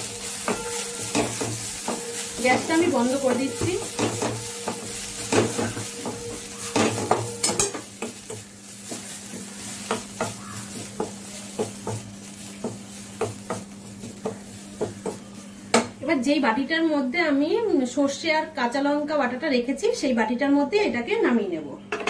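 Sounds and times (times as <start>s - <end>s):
light sizzle: 0.0s - 20.1s.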